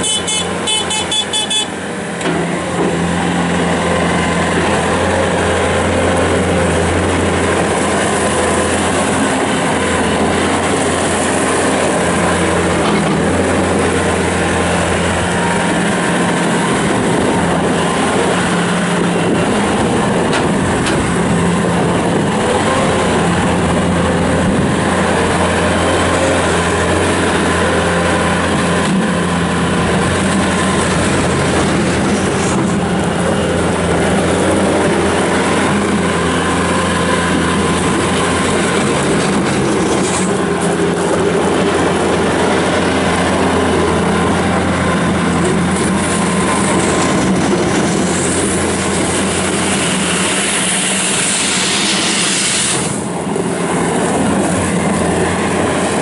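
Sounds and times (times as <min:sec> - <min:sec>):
diesel loader engine running: 0:00.0 - 0:56.0.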